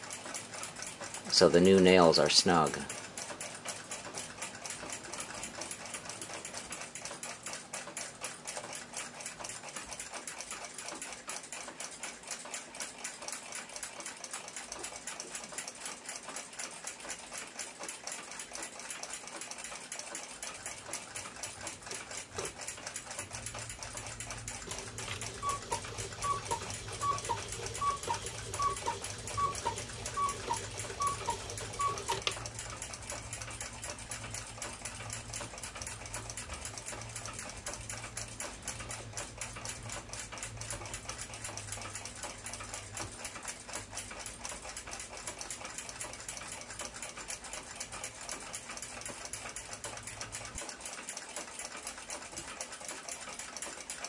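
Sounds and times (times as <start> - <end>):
mechanical clocks ticking: 0.0 - 54.0.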